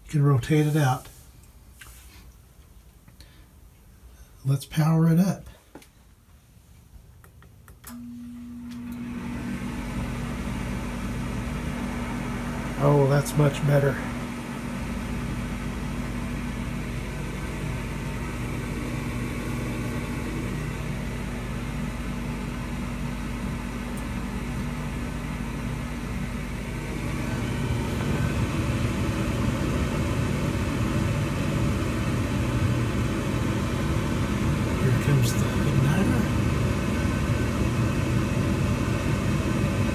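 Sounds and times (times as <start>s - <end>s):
furnace motor humming: 7.6s - 39.9s.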